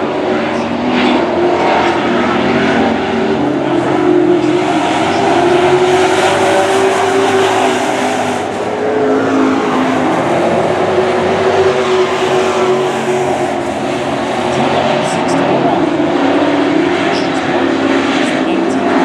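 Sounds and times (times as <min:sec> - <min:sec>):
racing truck engines: 0:00.0 - 0:19.0.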